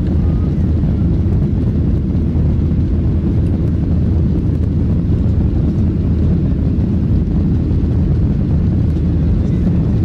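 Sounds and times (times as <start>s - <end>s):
airliner engine rumbling: 0.0s - 10.0s.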